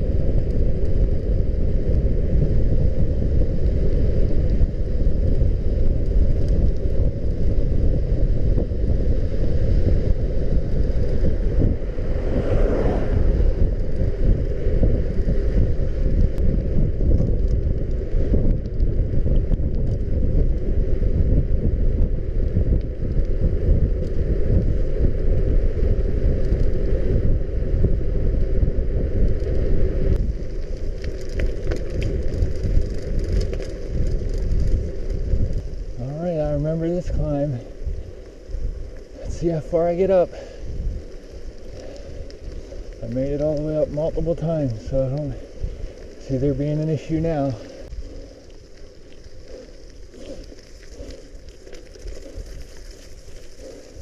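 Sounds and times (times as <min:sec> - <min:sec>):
bicycle tyre noise: 0:00.0 - 0:54.0
wind buffeting microphone: 0:00.0 - 0:54.0.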